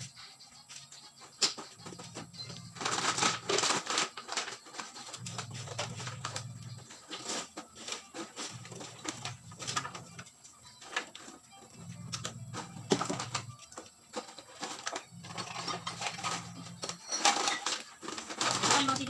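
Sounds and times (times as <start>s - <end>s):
recyclables knocking and rattling: 1.5s - 19.0s.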